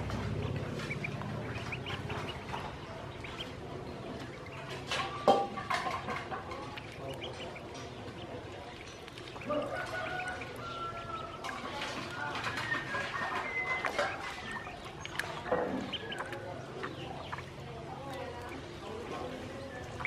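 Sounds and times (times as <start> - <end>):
ducklings peeping: 0.0 - 20.0.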